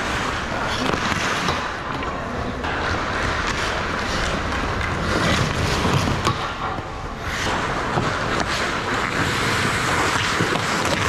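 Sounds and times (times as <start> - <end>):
skates rushing on ice: 0.0 - 11.0
sticks and puck clacking: 0.0 - 11.0.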